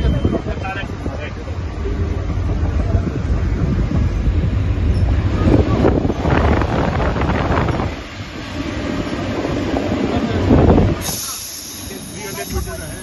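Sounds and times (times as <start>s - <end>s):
wind buffeting microphone: 0.0s - 11.2s
locomotive rumbling on track: 0.0s - 13.0s.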